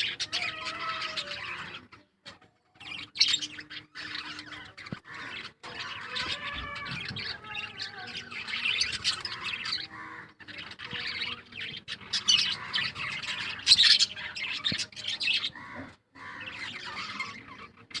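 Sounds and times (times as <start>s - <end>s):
small birds chattering and chirping: 0.0s - 18.0s.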